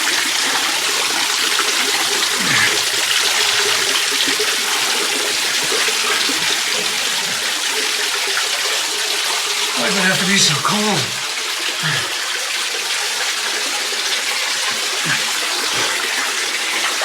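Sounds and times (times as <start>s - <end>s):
water rushing over small waterfall: 0.0s - 17.0s.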